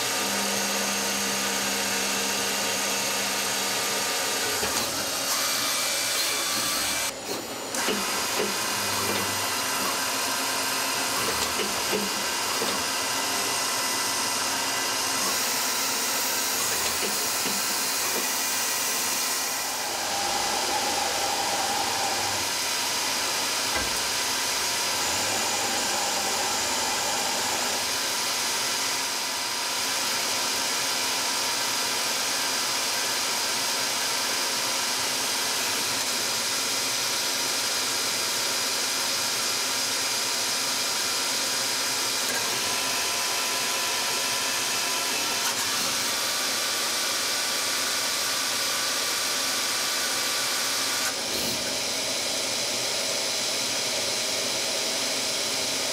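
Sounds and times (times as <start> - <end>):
lathe hissing and whining: 0.0 - 32.6, 39.8 - 55.9.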